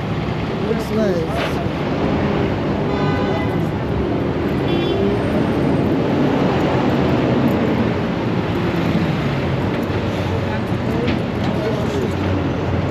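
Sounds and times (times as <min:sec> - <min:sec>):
dense traffic rumble: 0:00.0 - 0:12.9.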